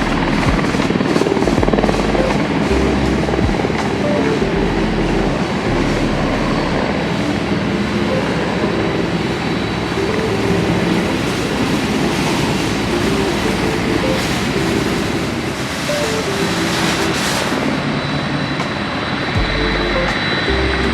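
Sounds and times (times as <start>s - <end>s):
jet engines roaring: 0.0s - 20.9s.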